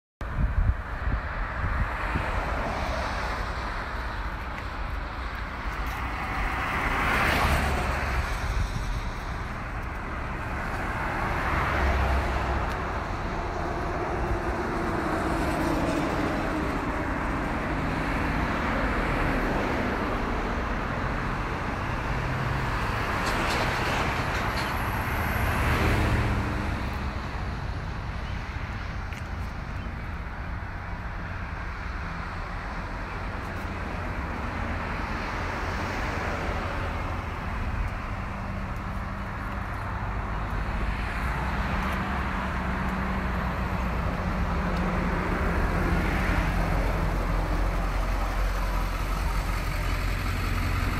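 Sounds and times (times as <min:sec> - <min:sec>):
road traffic rumble: 0:00.2 - 0:50.9
vehicles passing: 0:00.2 - 0:50.9.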